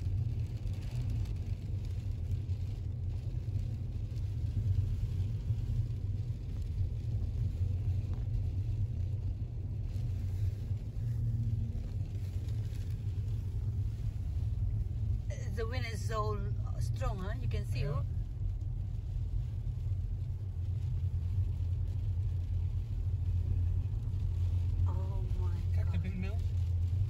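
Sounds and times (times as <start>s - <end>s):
car driving interior rumble: 0.0s - 27.0s.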